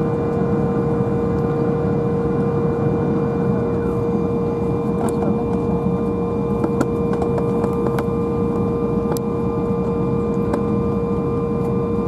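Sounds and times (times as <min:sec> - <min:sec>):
aircraft cabin rushing hum: 0:00.0 - 0:12.0.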